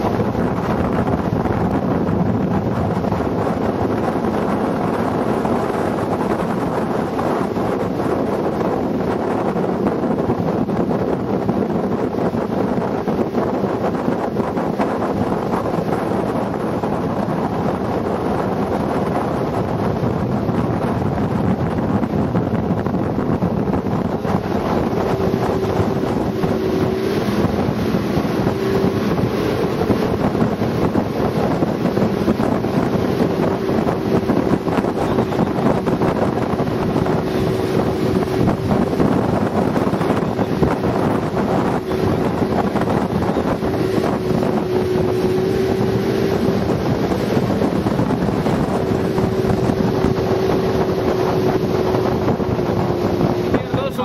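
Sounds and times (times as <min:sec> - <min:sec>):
motorboat engine droning: 0:00.0 - 0:54.0
wind buffeting microphone: 0:00.0 - 0:54.0.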